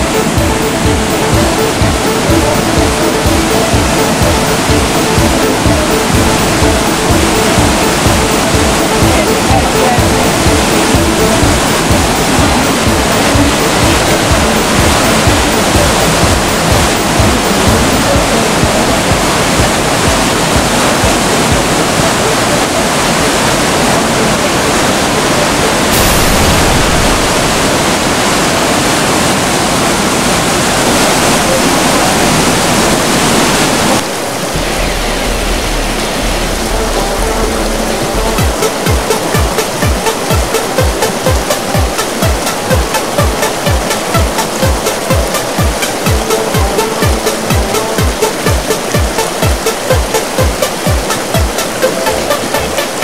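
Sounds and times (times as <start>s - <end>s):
floodwater torrent rushing: 0.0s - 53.0s.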